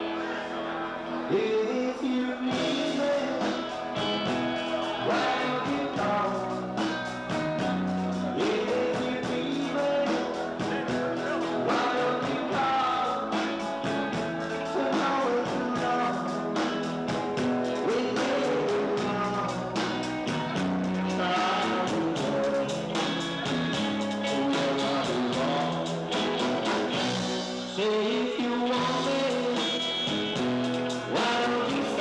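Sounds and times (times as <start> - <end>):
rock and roll band music: 0.0 - 32.0
steady drum beat: 2.5 - 32.0.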